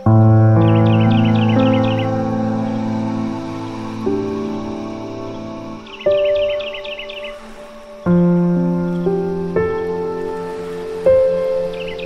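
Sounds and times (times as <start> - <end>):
held chords music: 0.0 - 12.0.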